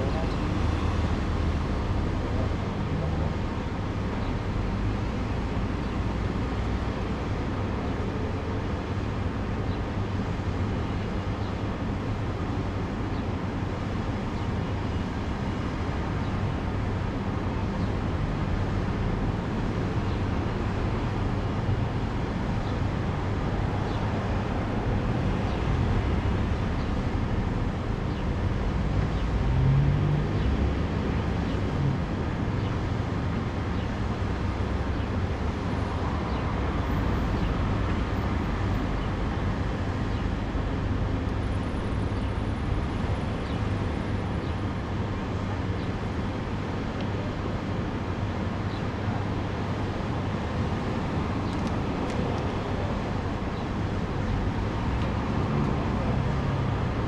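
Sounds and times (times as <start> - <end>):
low rumble of street traffic: 0.0 - 57.0.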